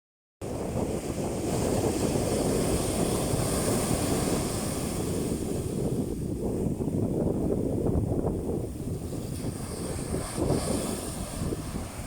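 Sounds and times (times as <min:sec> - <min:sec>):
surf breaking on beach: 0:00.4 - 0:12.0
wind buffeting microphone: 0:00.4 - 0:12.0.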